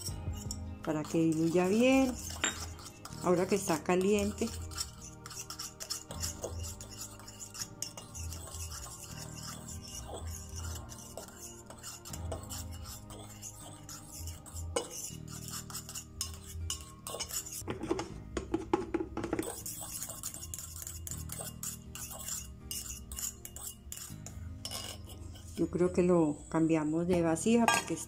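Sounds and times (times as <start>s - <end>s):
metal stirrer clinking in steel bowl: 0.0s - 17.6s, 19.4s - 25.6s, 27.6s - 28.0s.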